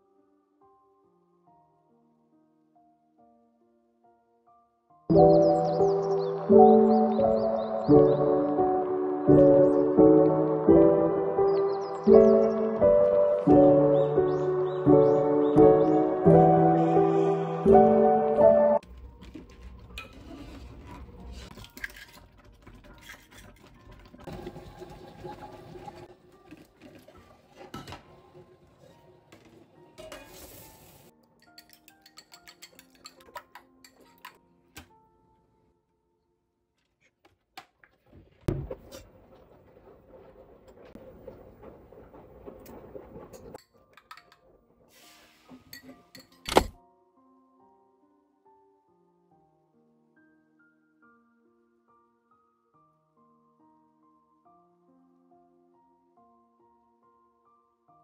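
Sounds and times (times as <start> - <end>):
soft background music: 0.0 - 36.4, 44.9 - 58.0.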